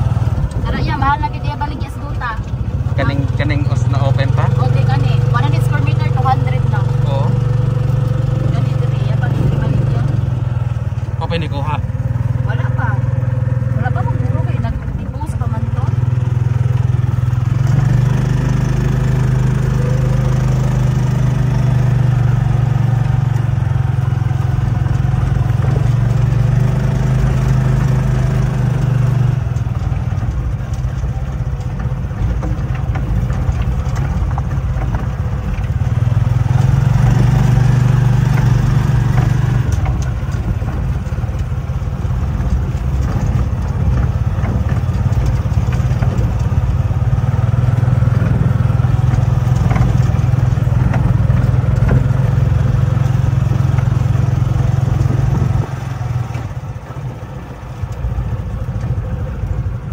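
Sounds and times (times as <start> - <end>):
light rattling from cab: 0.0 - 59.9
motorcycle engine running: 0.0 - 59.9.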